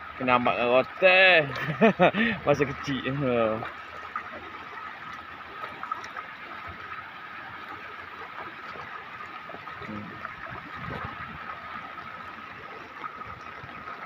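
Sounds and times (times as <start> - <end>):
floodwater flowing: 0.0 - 14.0.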